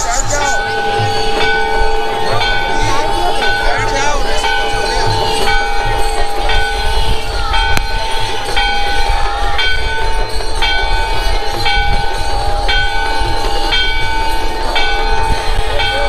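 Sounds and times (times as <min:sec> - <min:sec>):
temple bell ringing: 0:00.0 - 0:16.0.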